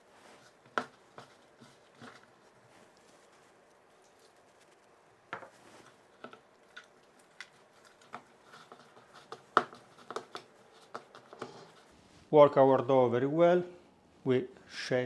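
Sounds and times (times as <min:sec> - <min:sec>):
dough squishing: 0:00.0 - 0:12.3.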